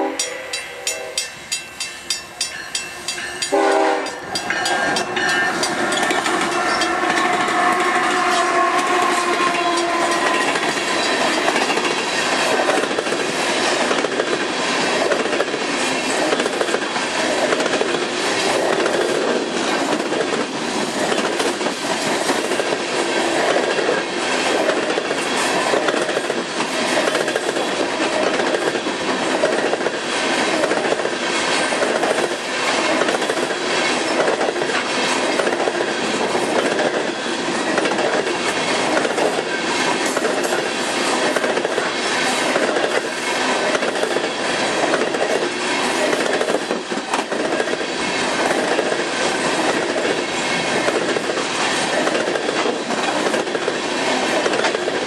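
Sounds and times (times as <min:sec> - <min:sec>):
train rumbling past: 0:00.0 - 0:55.0
wheels clicking over rails: 0:04.3 - 0:55.0.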